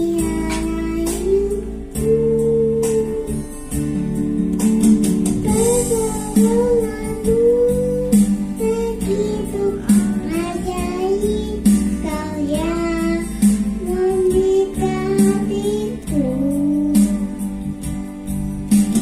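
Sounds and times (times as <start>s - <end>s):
girl singing: 0.0s - 3.4s, 5.4s - 17.6s
guitar accompaniment: 0.0s - 19.0s.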